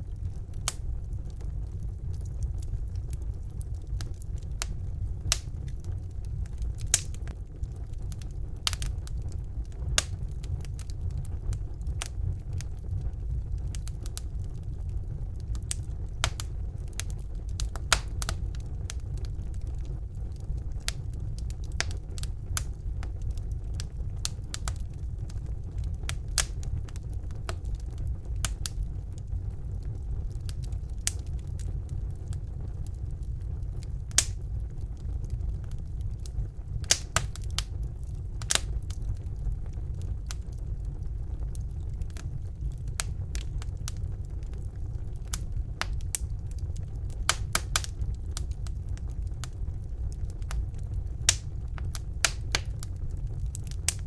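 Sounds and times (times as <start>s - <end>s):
logs crackling and popping: 0.0s - 54.0s
low rumble of flames: 0.0s - 54.0s.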